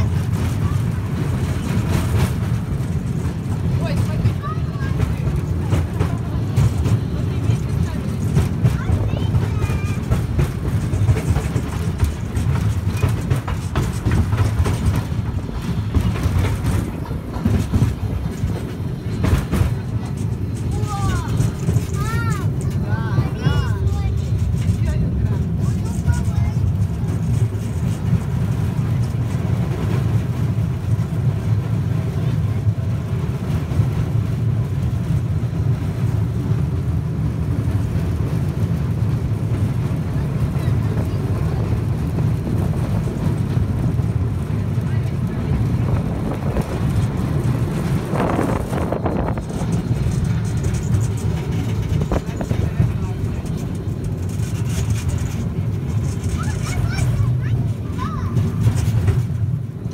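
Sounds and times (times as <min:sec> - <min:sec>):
light rattles and clicks: 0:00.0 - 0:31.6, 0:37.4 - 0:59.9
train carriage rumbling: 0:00.0 - 0:59.9.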